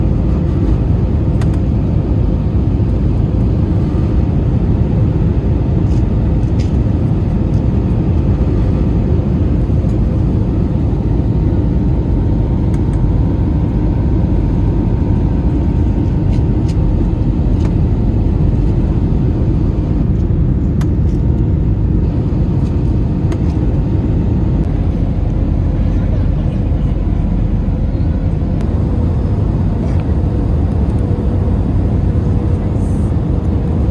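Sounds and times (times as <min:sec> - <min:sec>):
airliner cabin engine rush: 0:00.0 - 0:33.9.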